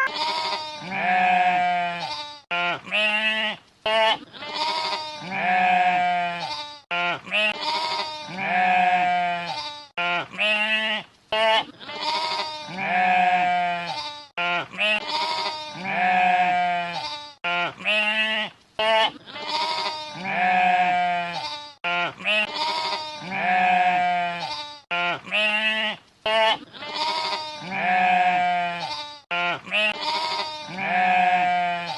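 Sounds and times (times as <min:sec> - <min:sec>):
sheep bleating: 0:00.0 - 0:31.9.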